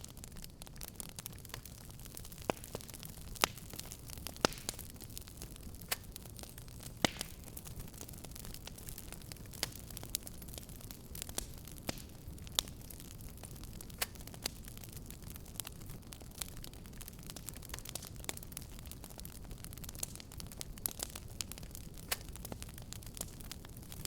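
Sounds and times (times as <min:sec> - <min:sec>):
fire crackling and popping: 0:00.0 - 0:24.0
low fire rumble and hiss: 0:00.0 - 0:24.0.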